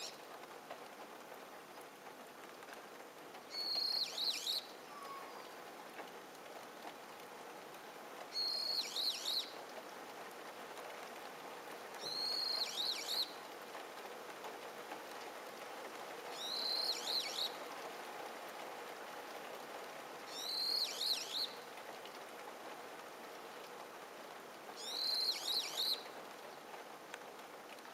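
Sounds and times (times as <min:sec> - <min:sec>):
faint background hiss: 0:00.0 - 0:27.9.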